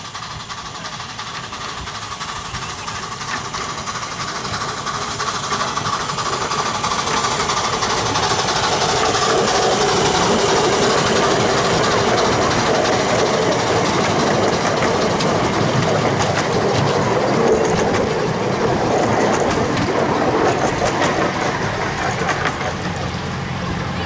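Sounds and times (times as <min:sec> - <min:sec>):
carriage wheels clattering over rail joints: 0:00.0 - 0:24.0.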